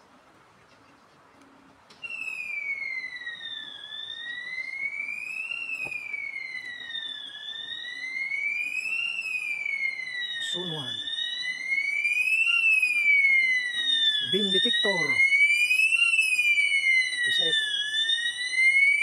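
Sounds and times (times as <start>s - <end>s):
electronic fire alarm siren: 1.9s - 19.0s.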